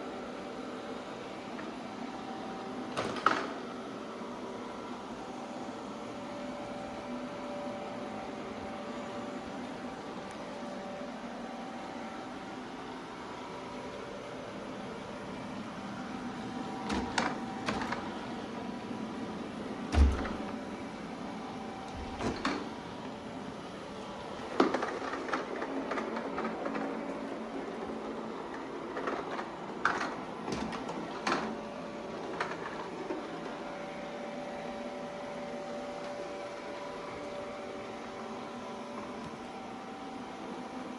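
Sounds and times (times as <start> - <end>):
robot vacuum humming: 0.0 - 40.9.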